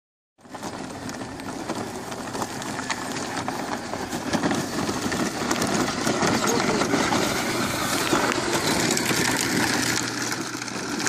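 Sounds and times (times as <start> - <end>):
toy ride-on vehicle clattering: 0.4 - 11.0.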